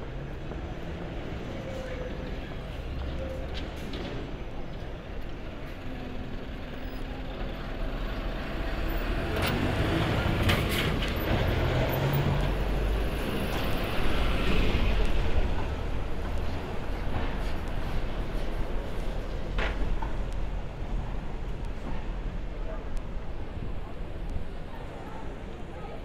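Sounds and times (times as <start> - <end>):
bus engines rumbling: 0.0 - 26.0.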